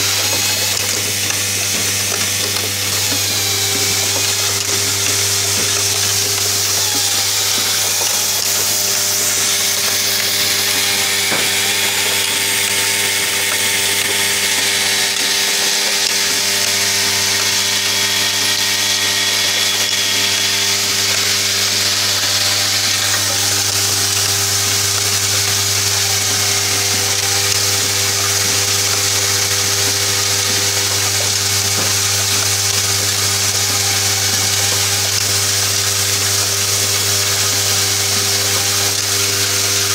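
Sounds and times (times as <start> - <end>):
machine low buzz with hiss: 0.0 - 39.9.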